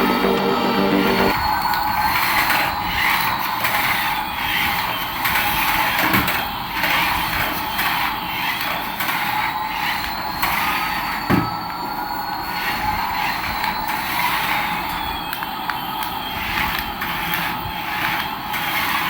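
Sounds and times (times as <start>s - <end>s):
toy motor and gears whirring: 1.3s - 19.0s.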